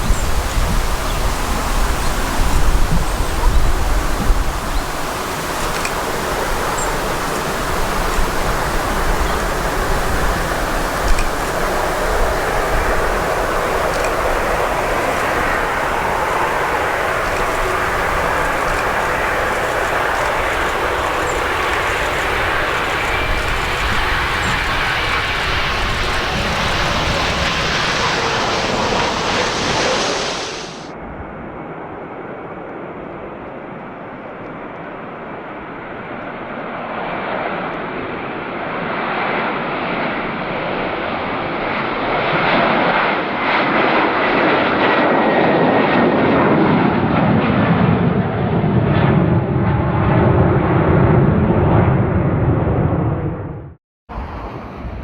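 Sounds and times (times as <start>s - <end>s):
airliner engine noise: 0.0s - 55.0s
airliner passing: 0.0s - 55.0s.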